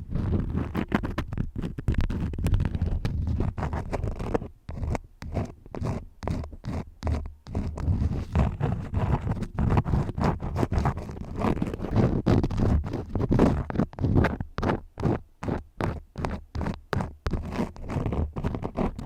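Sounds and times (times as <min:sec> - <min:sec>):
crayons scribbling: 0:00.0 - 0:19.0.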